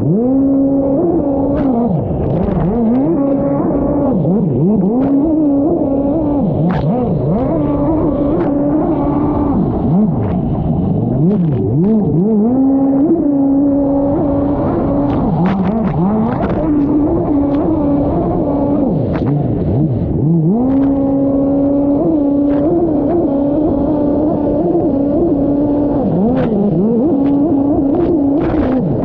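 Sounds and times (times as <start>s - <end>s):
jet ski engine revving: 0.0s - 29.0s.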